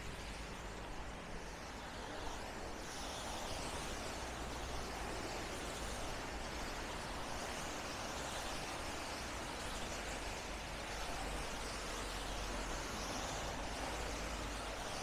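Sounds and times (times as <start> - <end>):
wet street city ambience: 0.0 - 15.0.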